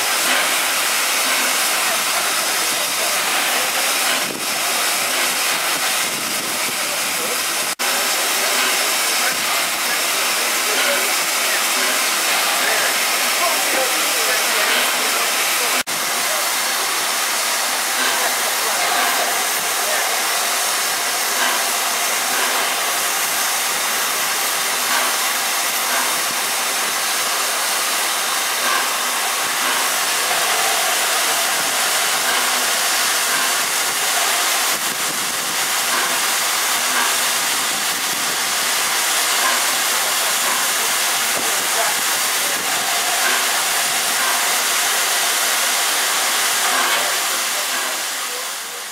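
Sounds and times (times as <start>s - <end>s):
steam hissing: 0.0s - 48.9s.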